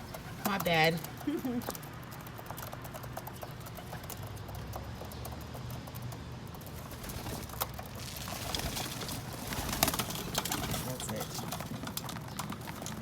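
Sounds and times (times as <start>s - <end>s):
pigeons pecking seeds: 0.0s - 13.0s.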